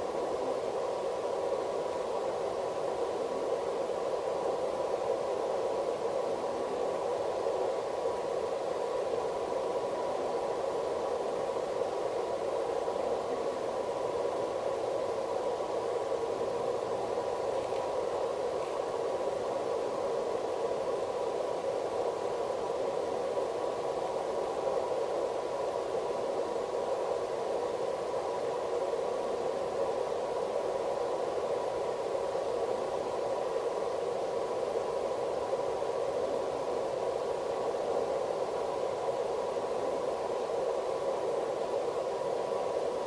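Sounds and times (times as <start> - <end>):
electronic static hiss: 0.0 - 43.0
faint steady tone: 0.0 - 43.0.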